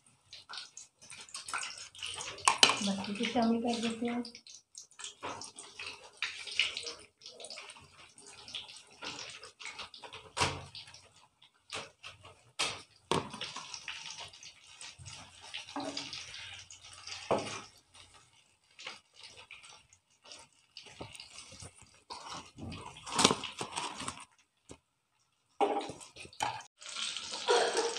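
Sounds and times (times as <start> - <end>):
food sizzling in hot oil: 0.0 - 24.3, 25.6 - 27.9.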